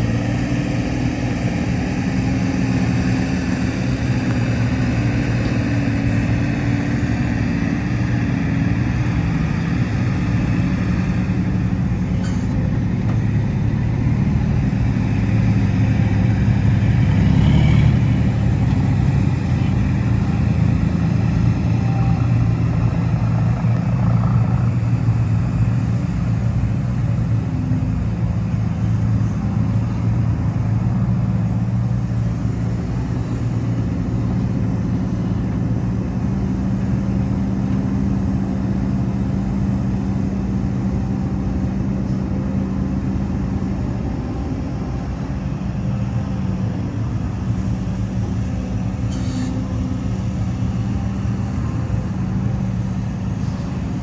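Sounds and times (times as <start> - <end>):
diesel earthmoving machinery running: 0.0 - 54.0.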